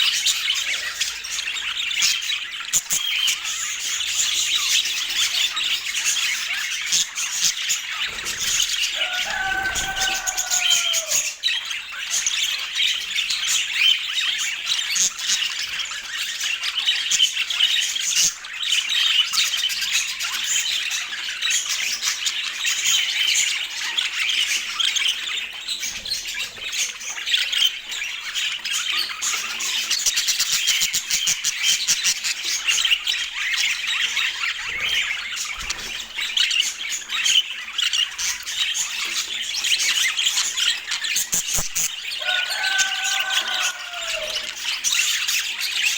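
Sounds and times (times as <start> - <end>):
budgerigars chattering and squawking: 0.0 - 45.9.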